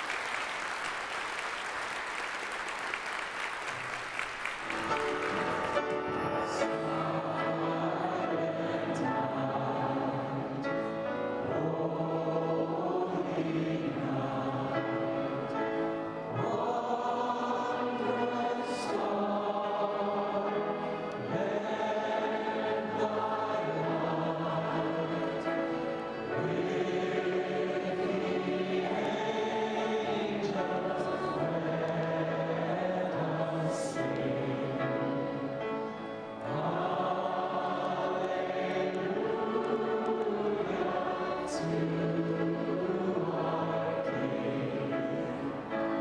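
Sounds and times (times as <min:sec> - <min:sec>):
choir singing: 0:04.6 - 0:46.0.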